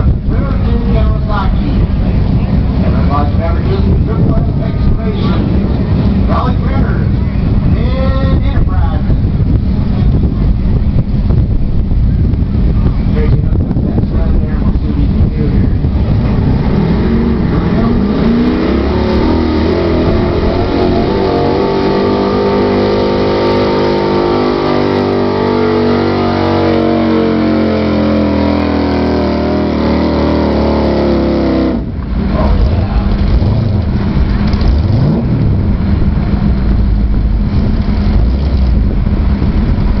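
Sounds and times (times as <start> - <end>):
low uneven rumble: 0.0 - 40.0.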